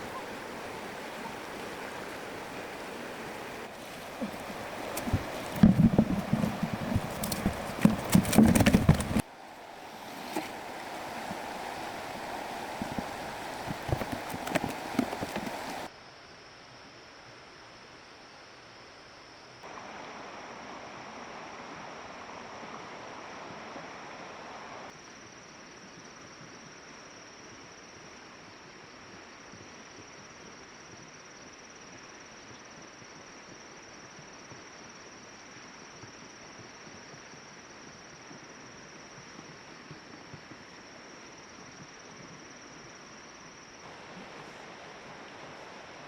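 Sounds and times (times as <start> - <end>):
soft hiss of water: 0.0 - 15.9, 19.4 - 46.0
insect drone: 0.0 - 46.0.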